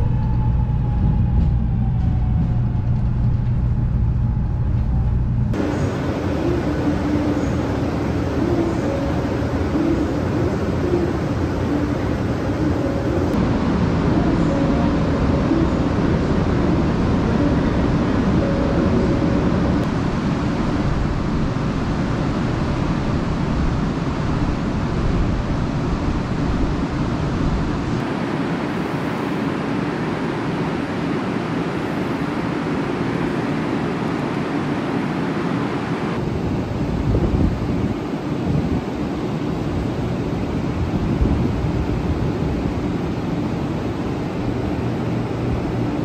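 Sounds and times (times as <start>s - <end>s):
train interior rumble: 0.0s - 46.0s.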